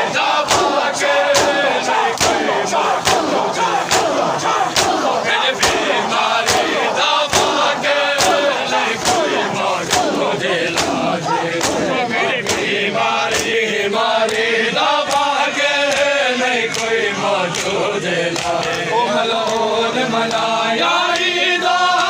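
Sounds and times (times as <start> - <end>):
men chanting a lament in unison: 0.0 - 22.0
hands slapping chests: 0.2 - 12.7, 13.3 - 13.6, 14.2 - 20.5.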